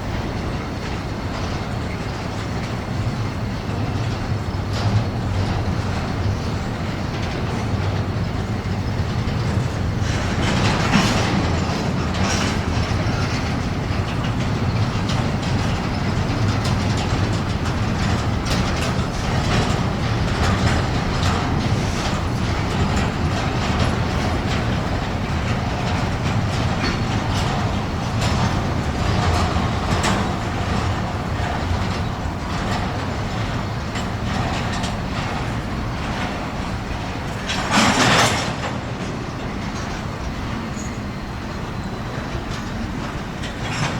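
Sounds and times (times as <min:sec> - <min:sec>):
train wheels rumbling on rail: 0:00.0 - 0:43.9
wheels clacking over rail joints: 0:00.0 - 0:43.9.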